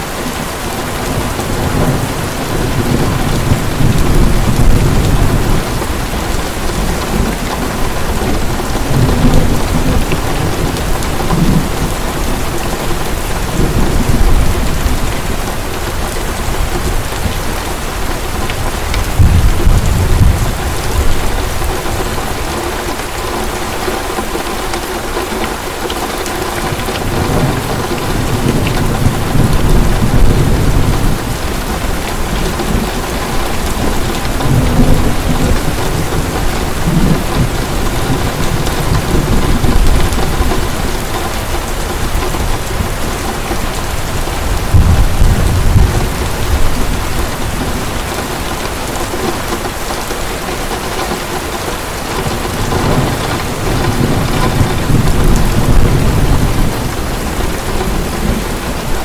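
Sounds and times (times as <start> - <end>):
thunder rumbling: 0.0 - 25.2, 26.0 - 50.8, 51.4 - 59.0
heavy rain downpour: 0.0 - 59.0.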